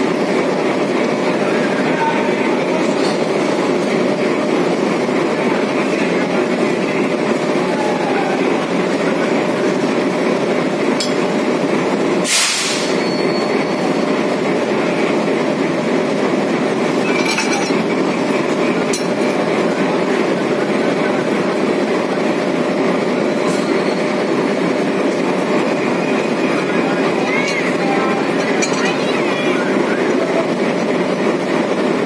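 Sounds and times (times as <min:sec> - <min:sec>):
diesel locomotive engine running: 0:00.0 - 0:32.0.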